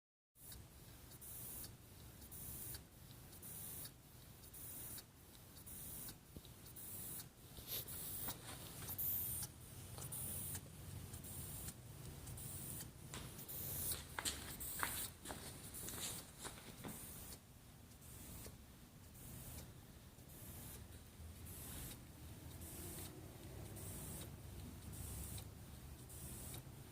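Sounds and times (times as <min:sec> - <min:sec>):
steady low hum: 0:00.5 - 0:26.9.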